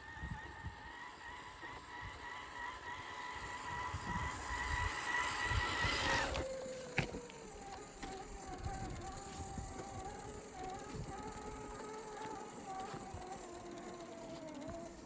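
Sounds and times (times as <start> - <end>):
toy car motor whining: 0.0 - 15.0.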